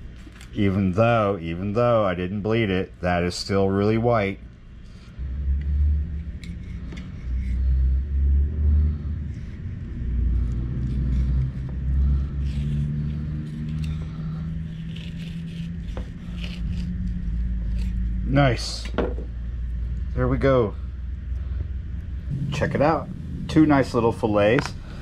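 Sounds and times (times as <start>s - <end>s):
steady hum: 0.0s - 25.0s
low rumble: 4.4s - 25.0s.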